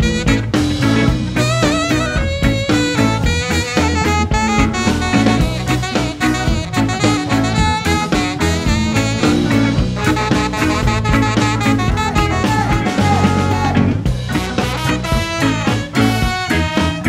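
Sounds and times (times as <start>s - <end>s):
live funk band playing: 0.0s - 17.0s
saxophone solo: 0.0s - 17.0s.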